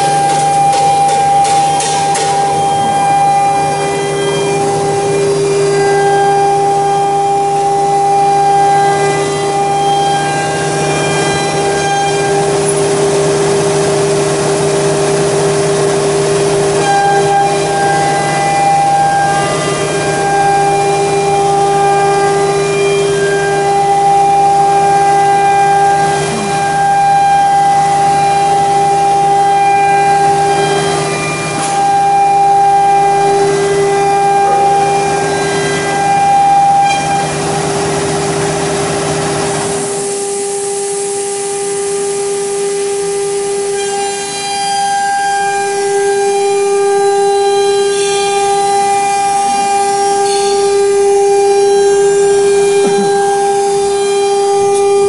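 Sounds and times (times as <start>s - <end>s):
router spindle whine: 0.0s - 55.0s.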